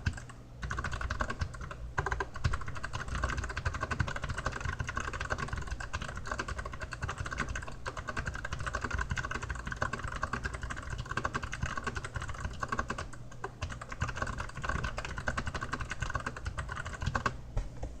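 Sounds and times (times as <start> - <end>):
mechanical keyboard typing: 0.0 - 17.4.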